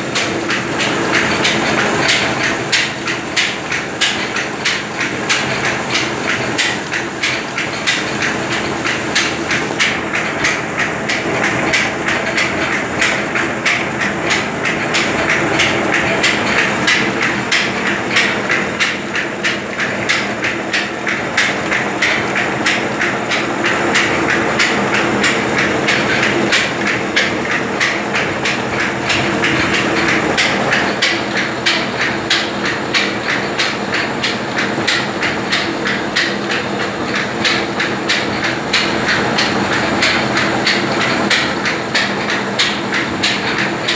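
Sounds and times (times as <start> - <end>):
flour mill mechanical clatter: 0.0 - 43.9
machine hum: 0.0 - 43.9.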